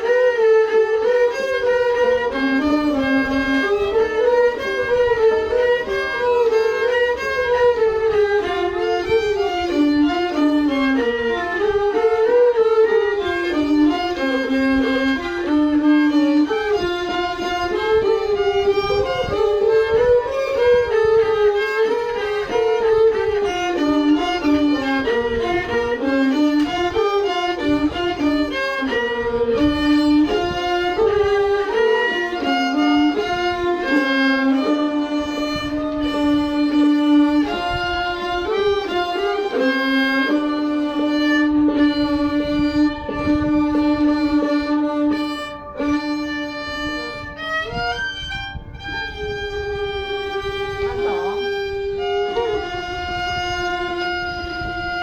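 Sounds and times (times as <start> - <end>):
bowed string solo melody: 0.0 - 55.0.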